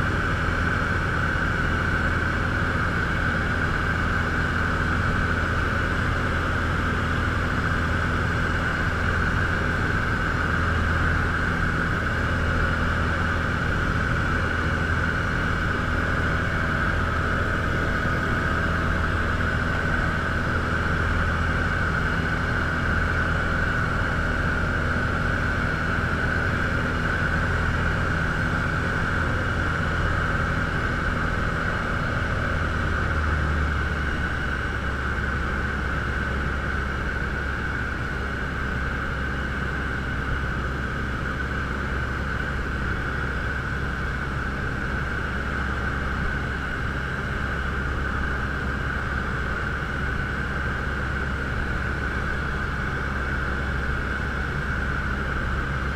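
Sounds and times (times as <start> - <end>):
light aircraft engine droning: 0.0 - 55.9.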